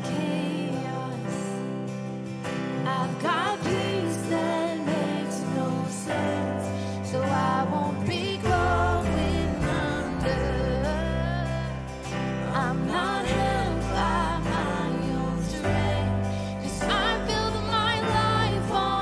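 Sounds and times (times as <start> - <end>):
woman singing: 0.0 - 2.1, 2.7 - 19.0
electric bass guitar: 0.0 - 19.0
sustained keyboard chords: 0.0 - 19.0.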